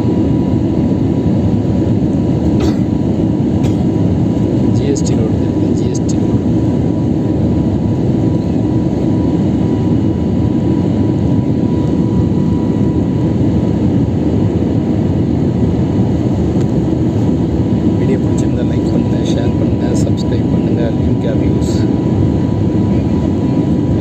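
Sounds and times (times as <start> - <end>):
jet engines and rushing air: 0.0 - 24.0.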